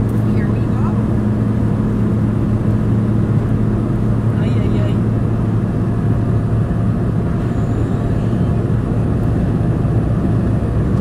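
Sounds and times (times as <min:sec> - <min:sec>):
plane engine drone from cabin: 0:00.0 - 0:11.0.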